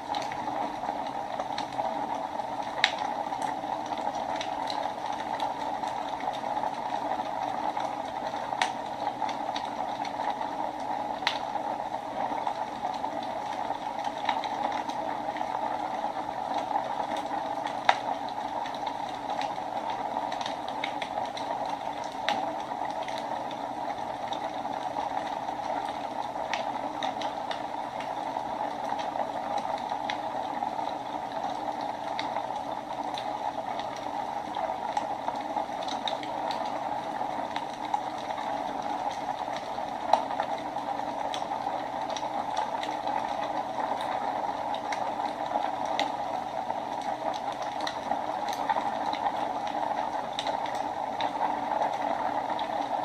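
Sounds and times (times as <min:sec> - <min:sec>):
wood fire hissing and crackling: 0:00.0 - 0:53.0.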